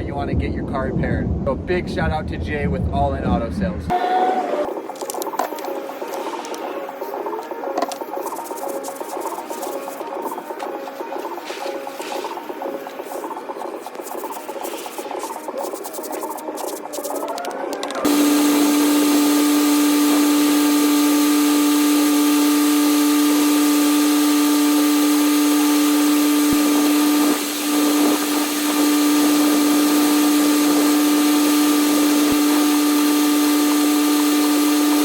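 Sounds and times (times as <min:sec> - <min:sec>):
pressure washer jet hissing: 0:03.9 - 0:17.3, 0:18.0 - 0:35.0
machine whine: 0:03.9 - 0:35.0.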